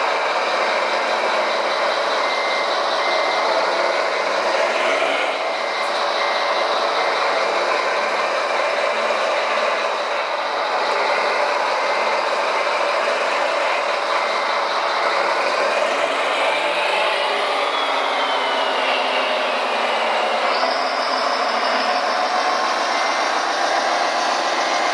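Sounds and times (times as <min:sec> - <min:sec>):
electric motors and gearboxes whirring: 0:00.1 - 0:24.9.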